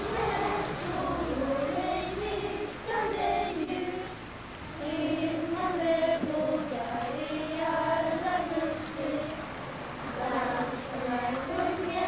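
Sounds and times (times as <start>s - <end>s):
choir singing slow melody: 0.0s - 12.0s.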